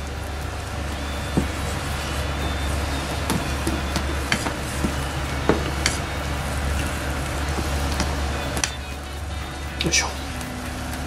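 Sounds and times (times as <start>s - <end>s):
chopsticks stirring batter: 0.0s - 11.0s
steady low hum: 0.0s - 11.0s.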